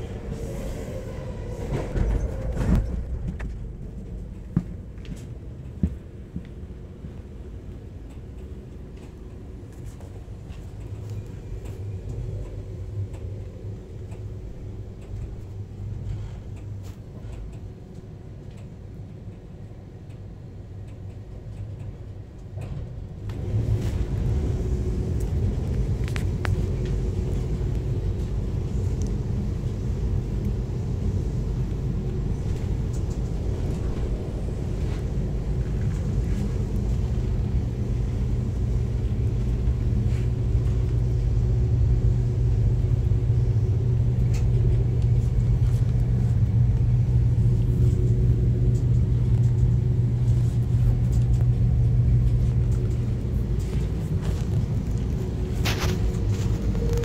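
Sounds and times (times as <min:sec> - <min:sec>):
train rumble inside car: 0:00.0 - 0:57.0.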